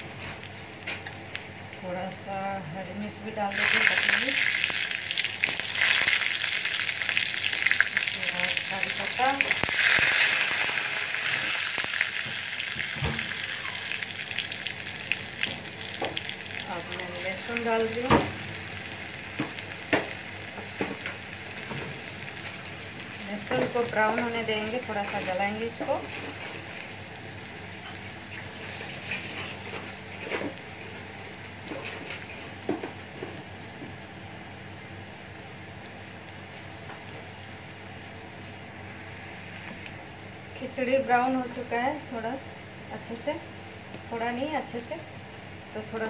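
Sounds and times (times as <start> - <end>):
crackles: 0.0 - 40.9
spices sizzling in hot ghee: 0.0 - 46.0.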